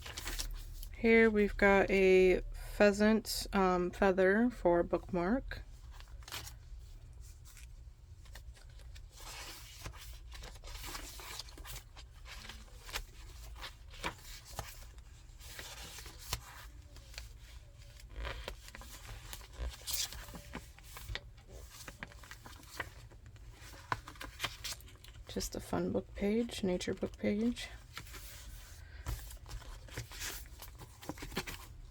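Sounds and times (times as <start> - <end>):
paper pages rustling: 0.0 - 0.9, 5.8 - 31.9.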